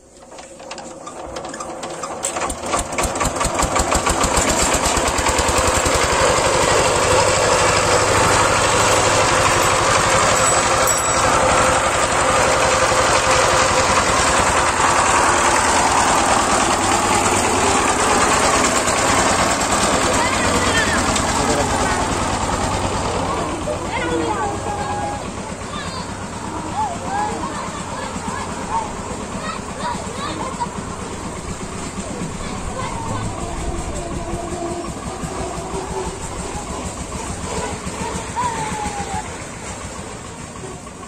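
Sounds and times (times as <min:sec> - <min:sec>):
diesel engine starting and running: 0:00.0 - 0:41.0.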